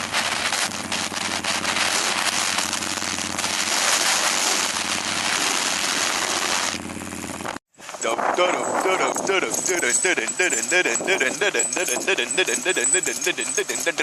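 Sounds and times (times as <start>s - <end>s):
motorcycle engine running: 0.0s - 7.6s, 8.6s - 14.0s.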